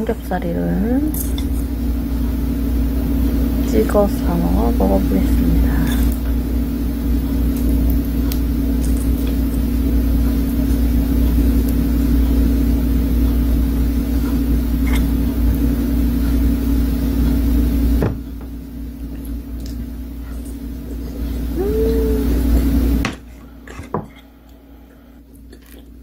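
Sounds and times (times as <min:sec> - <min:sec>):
machine hum with low rumble: 0:00.0 - 0:26.0.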